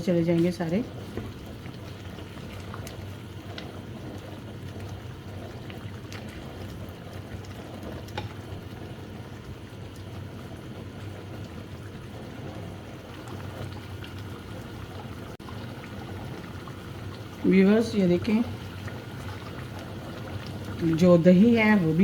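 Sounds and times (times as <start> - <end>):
food bubbling and sizzling: 0.0 - 22.0.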